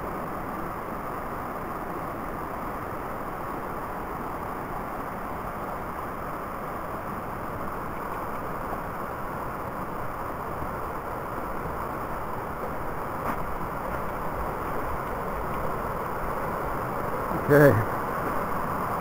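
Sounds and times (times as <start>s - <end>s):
brook flowing over rocks: 0.0s - 19.0s.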